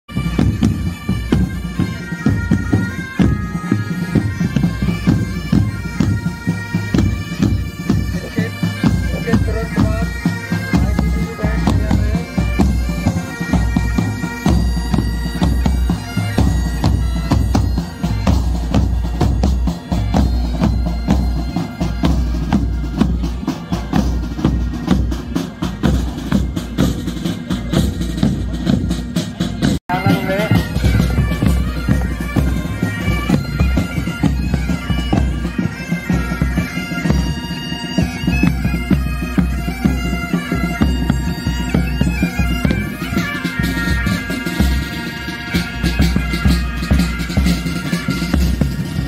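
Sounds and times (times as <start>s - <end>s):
bagpipes playing melody: 0.1s - 49.0s
drums beating time: 0.1s - 49.0s.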